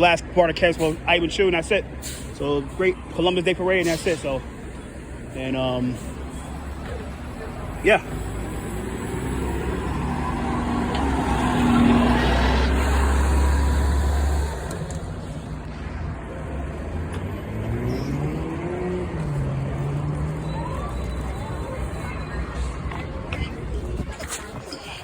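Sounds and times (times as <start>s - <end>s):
vehicle engine rumbling: 0.0s - 25.0s
engine revving and pulling away: 0.7s - 24.9s.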